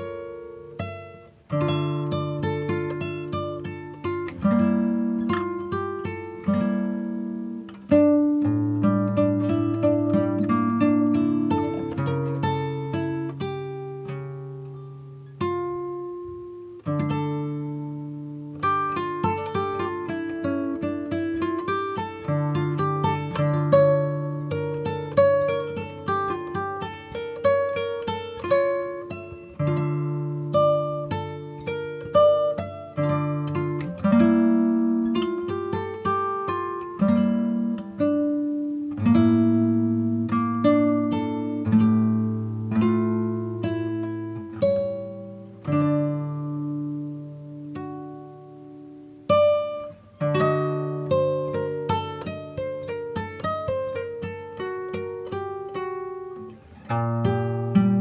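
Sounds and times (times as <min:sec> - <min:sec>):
acoustic guitar plucked: 0:00.0 - 0:58.0.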